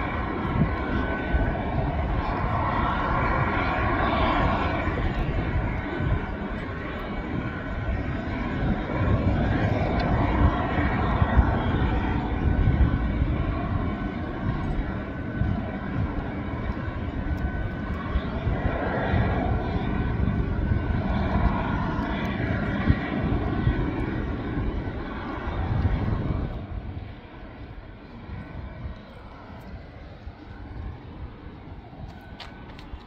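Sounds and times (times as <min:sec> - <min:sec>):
distant jet engine whine: 0:00.0 - 0:33.0
wind rumble on microphone: 0:00.0 - 0:33.0.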